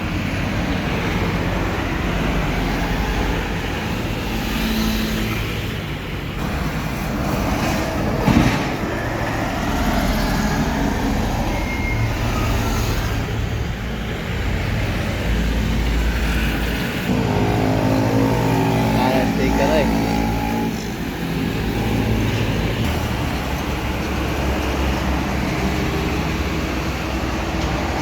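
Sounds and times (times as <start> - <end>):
trucks passing: 0.0 - 28.0.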